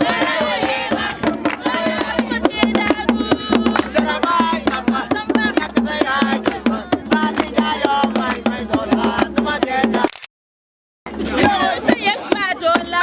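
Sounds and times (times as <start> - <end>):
fast hand-drum strokes: 0.0 - 10.0, 11.1 - 13.0.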